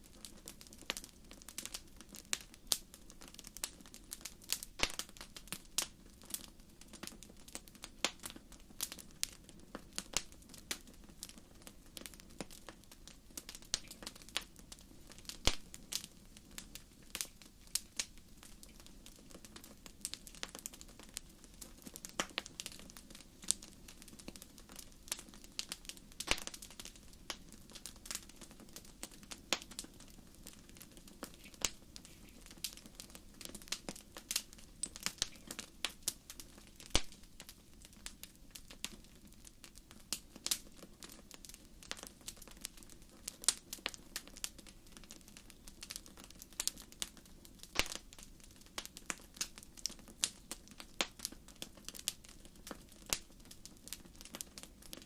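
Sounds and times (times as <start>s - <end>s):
wood fire crackling: 0.0s - 55.0s
low hiss of flames: 0.1s - 55.0s.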